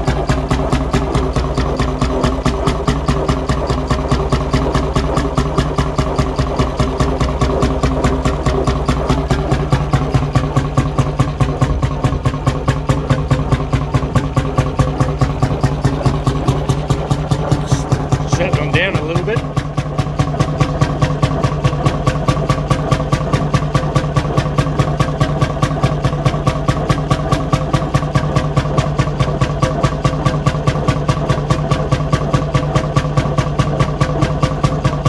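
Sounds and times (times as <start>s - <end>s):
two-stroke engine running: 0.0s - 35.0s.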